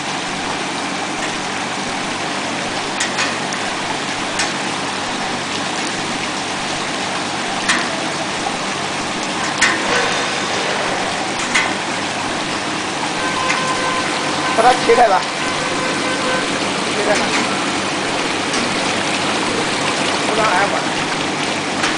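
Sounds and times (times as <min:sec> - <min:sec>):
machine splashing water: 0:00.0 - 0:21.9.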